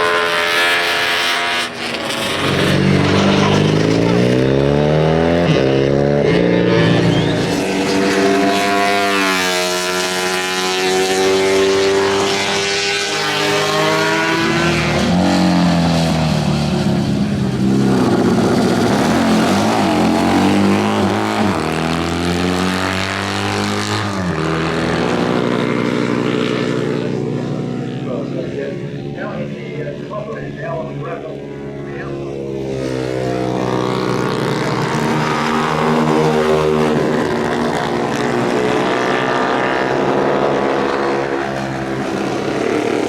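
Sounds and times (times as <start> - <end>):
racing motorcycles revving past: 0.0 - 43.0.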